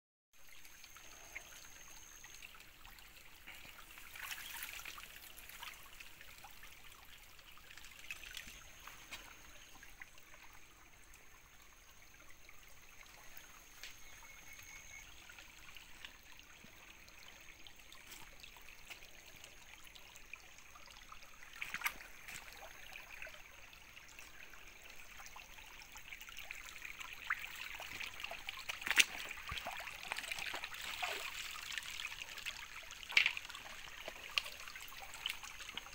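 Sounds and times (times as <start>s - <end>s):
water trickling over stones: 0.4s - 35.9s.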